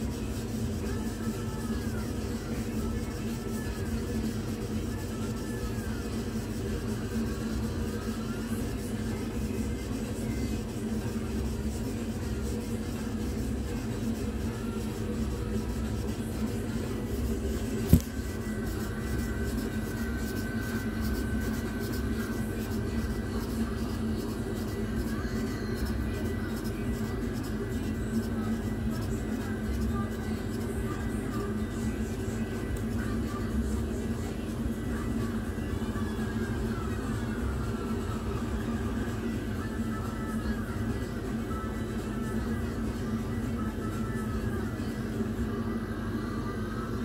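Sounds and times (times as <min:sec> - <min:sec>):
machine fans humming: 0:00.0 - 0:47.0.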